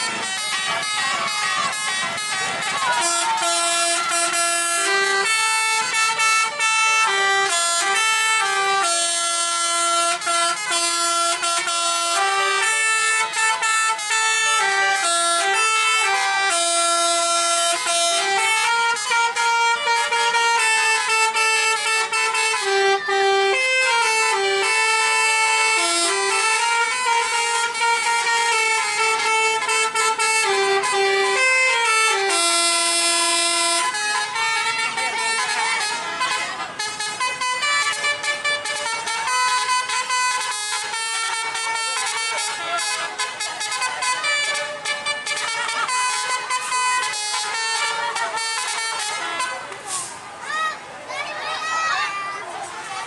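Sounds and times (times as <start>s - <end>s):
bus melody horns playing: 0.0s - 50.2s.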